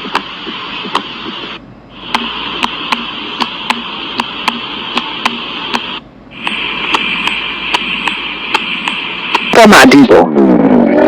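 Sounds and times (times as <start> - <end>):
heartbeat clicks: 0.0 - 9.6
steady hiss: 0.0 - 10.1.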